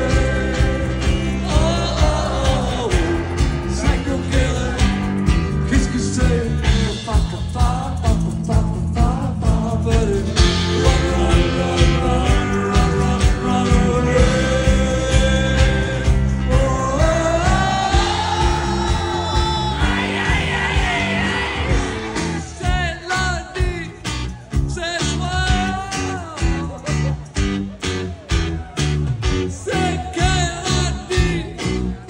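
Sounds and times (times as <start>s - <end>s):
live rock band through phone: 0.0s - 32.0s.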